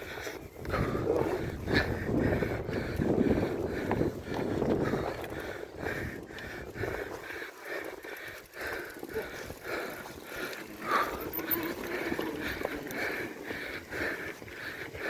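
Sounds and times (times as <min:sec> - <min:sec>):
bike rumbling on rough ground: 0:00.0 - 0:15.0
person breathing hard: 0:00.0 - 0:15.0.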